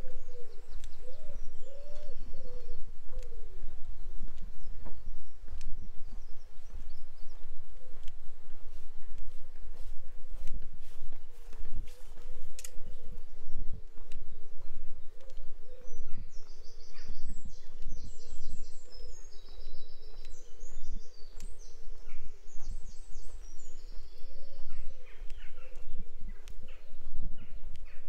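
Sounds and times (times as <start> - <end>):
songbirds singing trills: 0.0 - 28.0.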